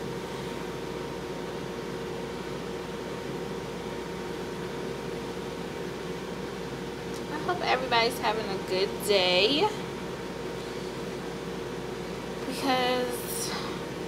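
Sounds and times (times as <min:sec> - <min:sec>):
appliance humming and hissing: 0:00.0 - 0:14.0.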